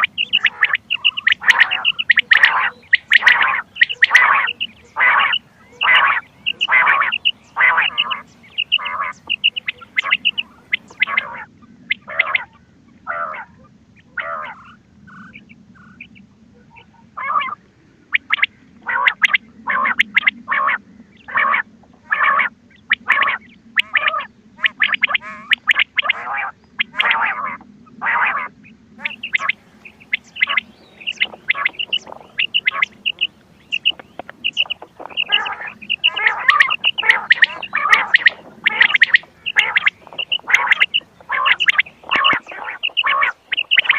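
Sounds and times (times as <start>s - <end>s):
faint low hum: 0.0s - 43.9s
quail calling: 0.0s - 43.9s.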